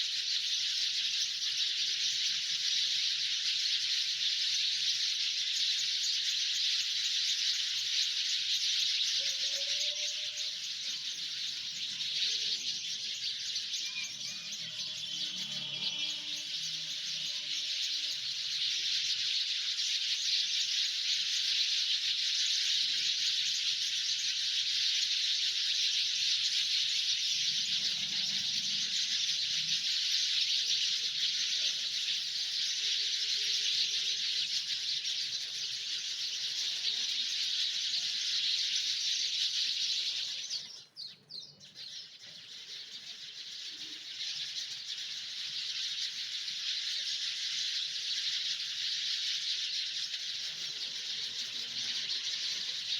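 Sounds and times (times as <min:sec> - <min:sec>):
birds chirping chorus: 0:00.0 - 0:52.9.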